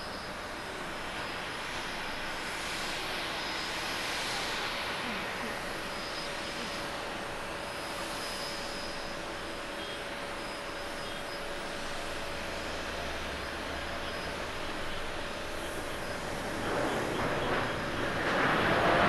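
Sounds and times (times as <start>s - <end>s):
jet engine rushing: 0.0s - 19.0s.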